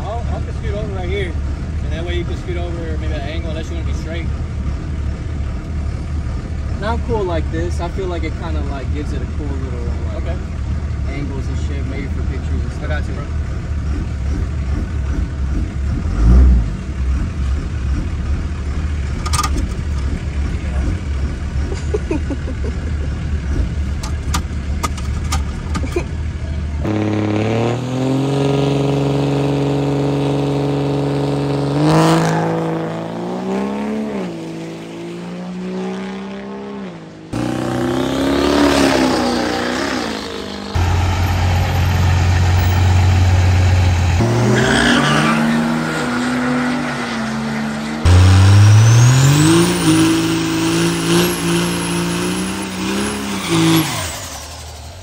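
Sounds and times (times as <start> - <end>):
diesel engines revving hard: 0.0 - 55.0.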